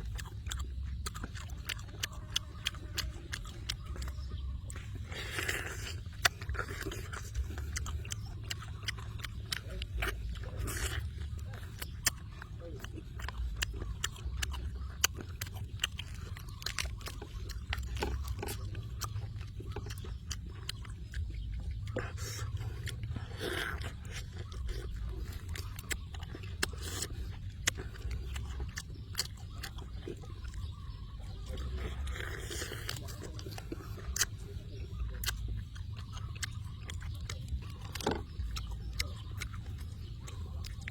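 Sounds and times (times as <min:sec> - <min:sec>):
person chewing noisily: 0:00.0 - 0:40.9.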